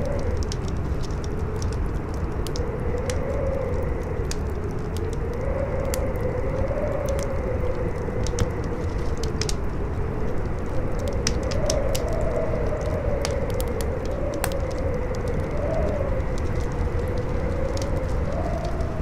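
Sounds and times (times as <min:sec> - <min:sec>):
howling wind: 0:00.0 - 0:19.0
wood fire crackling: 0:00.0 - 0:19.0.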